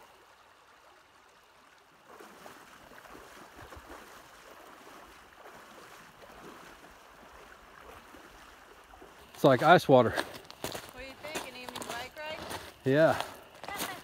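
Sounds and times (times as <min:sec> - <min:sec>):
rushing stream: 0:00.0 - 0:14.0
water sloshing from wading: 0:00.0 - 0:14.0.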